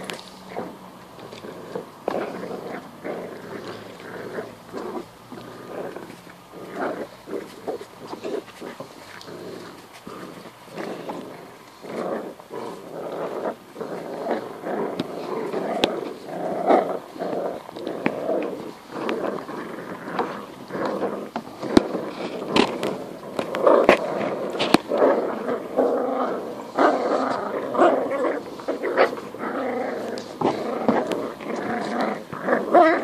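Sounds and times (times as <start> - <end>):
clicks and scrapes on paving stones: 0.0 - 33.0
puppies growling: 0.0 - 33.0.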